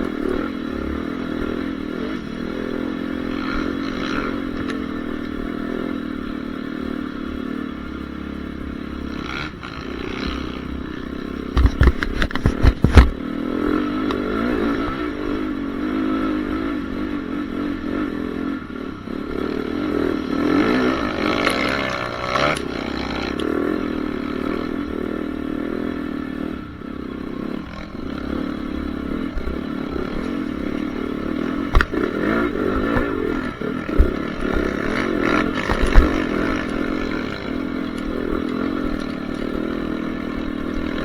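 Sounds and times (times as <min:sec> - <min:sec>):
motocross engine revving: 0:00.0 - 0:41.0.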